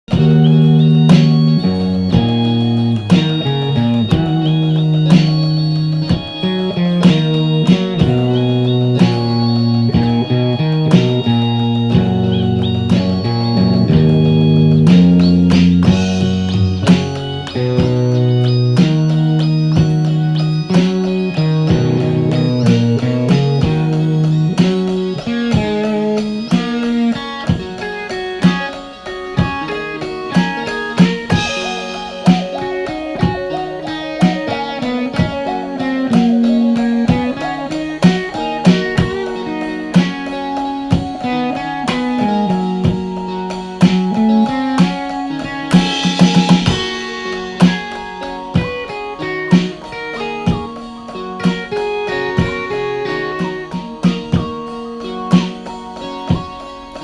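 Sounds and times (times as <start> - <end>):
electric guitar slow notes: 0.0 - 57.0
drum hits: 0.1 - 56.6
cymbal wash: 0.2 - 57.0.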